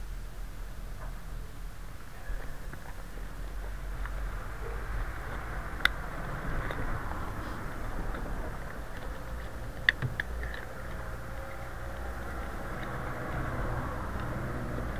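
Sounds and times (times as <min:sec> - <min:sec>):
steady low rumble: 0:00.0 - 0:14.9
light clicks and rustles: 0:02.3 - 0:14.9.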